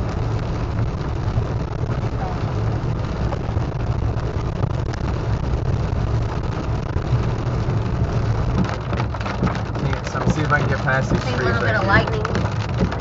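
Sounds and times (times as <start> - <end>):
road and engine noise inside car: 0.0 - 13.0.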